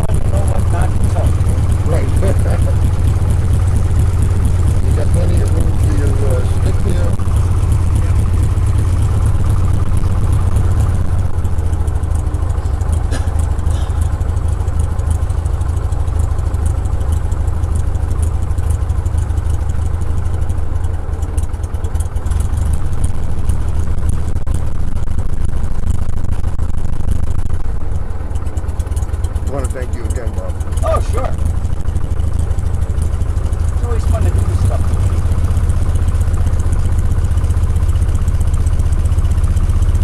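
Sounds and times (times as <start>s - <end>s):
light aircraft engine droning: 0.0s - 40.0s.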